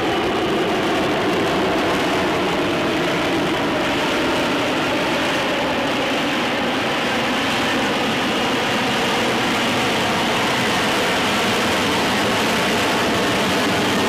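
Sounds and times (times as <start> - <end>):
jet aircraft hovering: 0.0 - 14.0.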